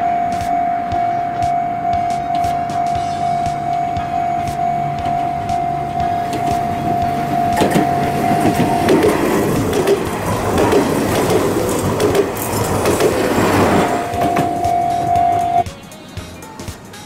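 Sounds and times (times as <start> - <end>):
level crossing alarm tone: 0.0 - 15.6
train rumble and wheel clatter: 0.4 - 17.0.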